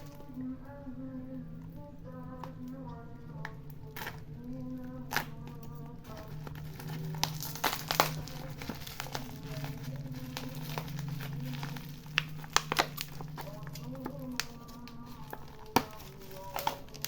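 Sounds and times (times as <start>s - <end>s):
plastic packaging crinkling: 0.0s - 0.4s, 3.4s - 17.0s
background music: 0.0s - 17.0s.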